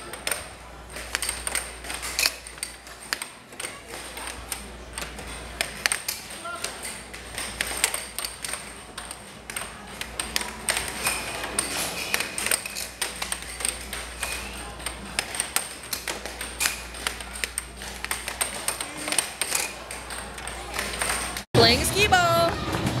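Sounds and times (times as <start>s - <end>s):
air hockey puck clacking: 0.0s - 21.5s
arcade background noise: 0.0s - 23.0s.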